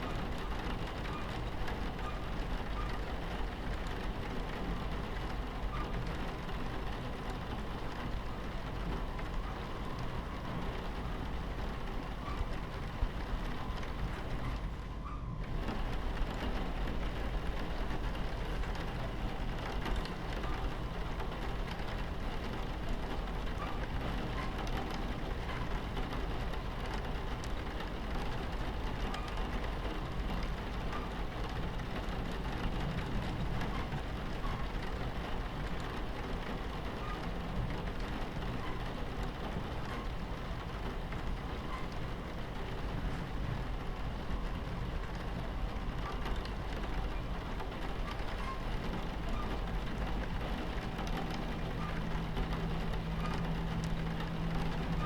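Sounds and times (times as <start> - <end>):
rain on window: 0.0 - 55.0
train rumbling on tracks: 0.0 - 55.0.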